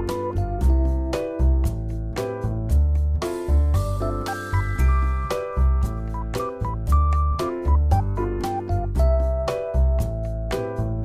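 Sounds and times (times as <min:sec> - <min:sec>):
electric piano music with beat: 0:00.0 - 0:11.0.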